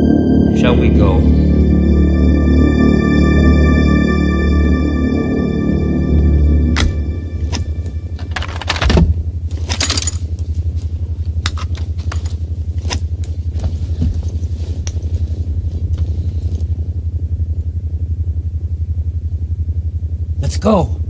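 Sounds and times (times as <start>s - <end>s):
low pulsing machine hum: 0.0s - 21.0s.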